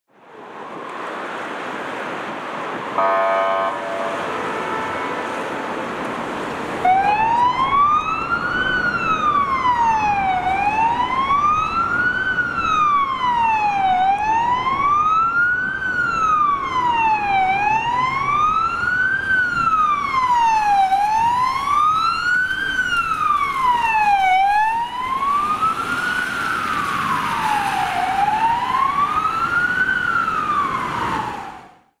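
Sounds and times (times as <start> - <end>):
street traffic: 0.1 - 32.0
ambulance siren wailing: 2.9 - 32.0.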